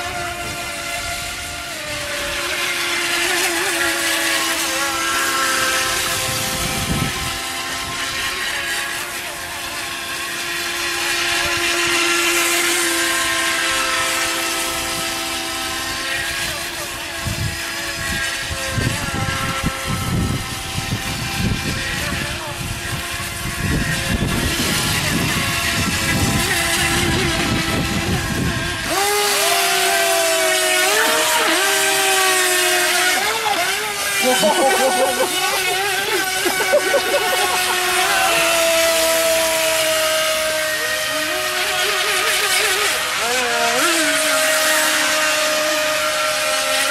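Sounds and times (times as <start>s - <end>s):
electric motor whining: 0.0s - 46.9s.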